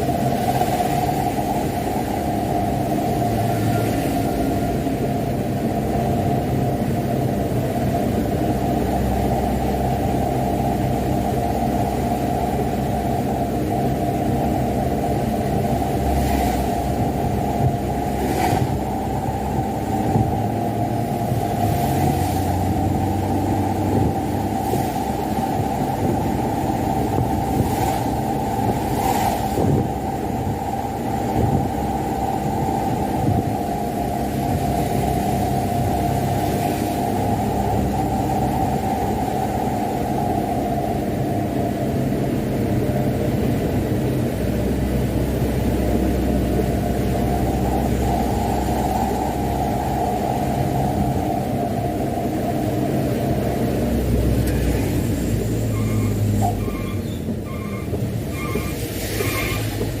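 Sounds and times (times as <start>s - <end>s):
truck diesel engine driving: 0.0s - 60.0s.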